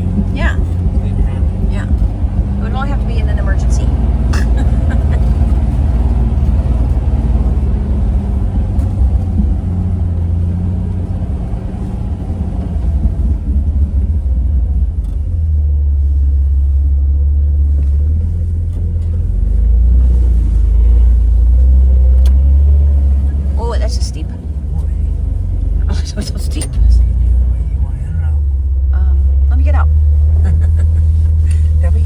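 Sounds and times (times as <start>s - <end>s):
engine running at low revs: 0.0s - 32.0s.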